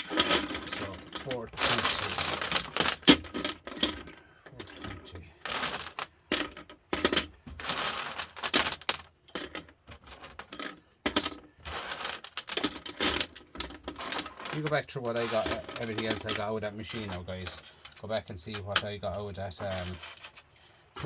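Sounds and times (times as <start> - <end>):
scrap copper clinking: 0.0 - 21.0.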